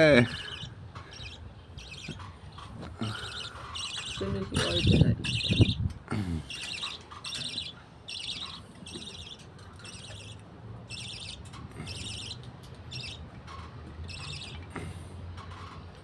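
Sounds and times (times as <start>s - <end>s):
budgerigars chirping raspily: 0.2s - 13.2s, 14.1s - 14.6s.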